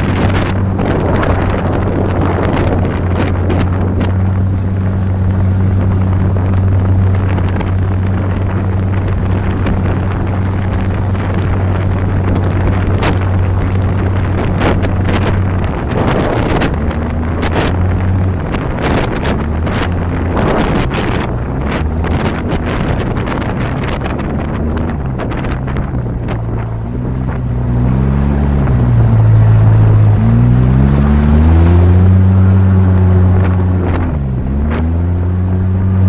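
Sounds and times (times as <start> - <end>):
engine running: 0.0 - 36.0
wind buffeting microphone: 0.0 - 36.0.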